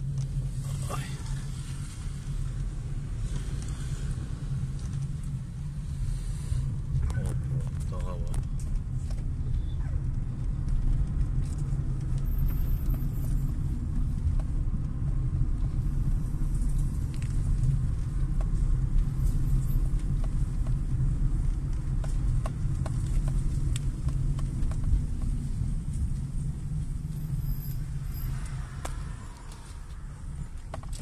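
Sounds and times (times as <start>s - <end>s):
car engine and tyres rumbling: 0.0s - 31.0s.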